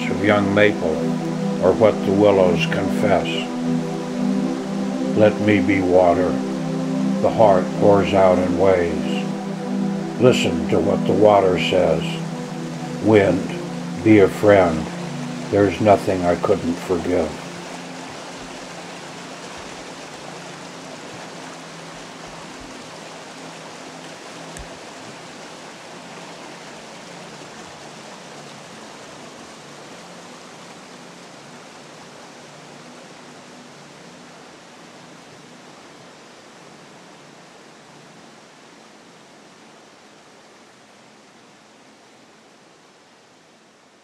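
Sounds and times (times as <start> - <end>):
faint low drone: 0.0 - 35.4
running water: 0.0 - 44.0.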